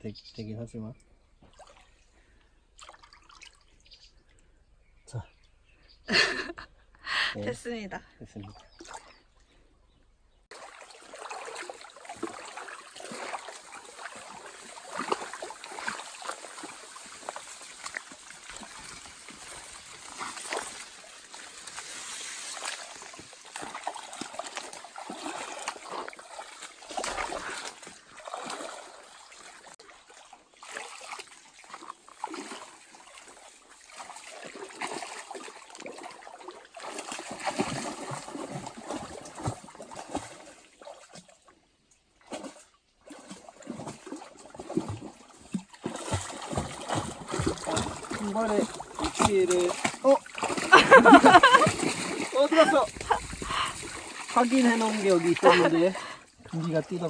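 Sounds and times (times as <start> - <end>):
stream water trickling: 0.0 - 6.0, 7.4 - 57.0
feet wading through water: 1.4 - 3.9, 8.5 - 9.6, 10.5 - 57.0.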